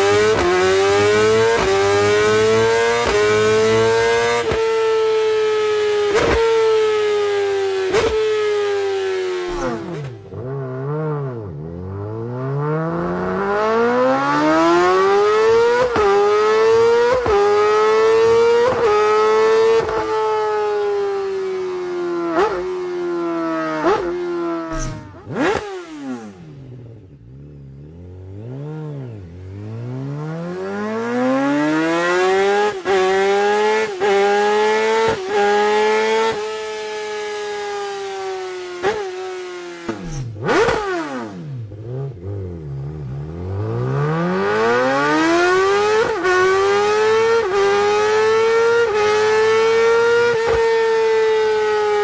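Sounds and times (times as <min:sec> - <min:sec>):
motorbike engine revving: 0:00.0 - 0:52.0.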